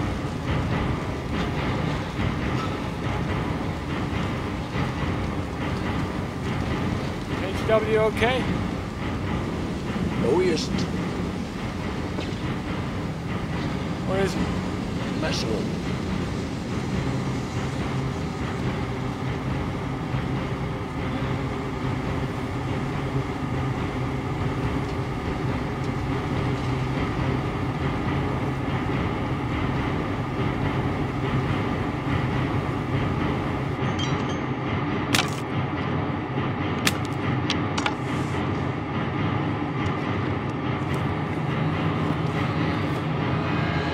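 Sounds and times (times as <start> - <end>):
low rumble of burning gas well: 0.0 - 43.9.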